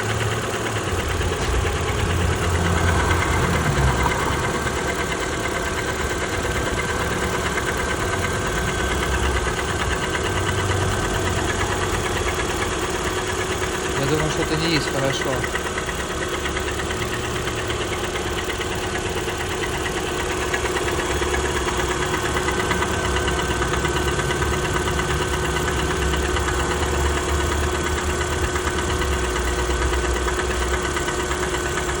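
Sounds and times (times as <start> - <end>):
car engine idling: 0.0 - 32.0
rapid rhythmic engine knock: 0.0 - 32.0.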